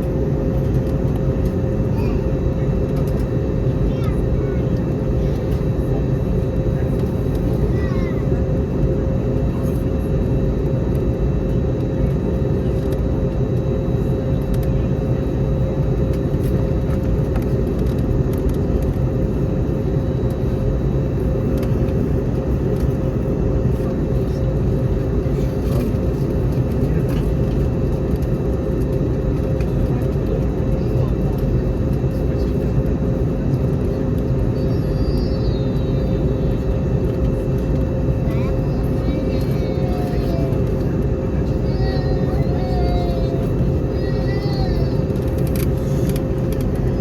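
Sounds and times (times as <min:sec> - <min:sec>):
constant hum tone: 0:00.0 - 0:47.0
engine and airflow roar: 0:00.0 - 0:47.0.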